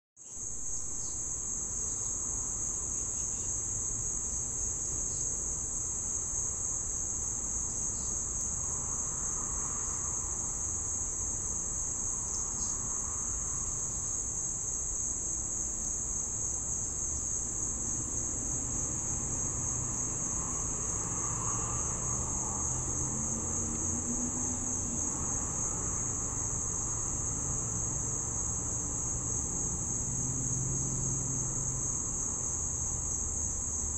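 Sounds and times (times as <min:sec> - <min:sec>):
insects chirring: 0:00.2 - 0:33.9.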